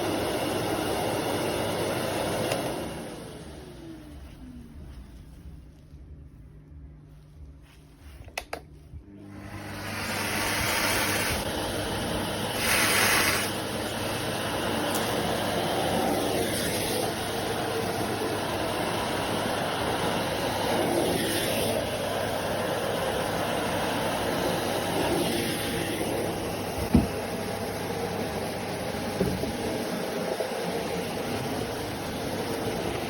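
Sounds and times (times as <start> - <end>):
vacuum cleaner running: 0.0 - 5.3, 9.0 - 33.0.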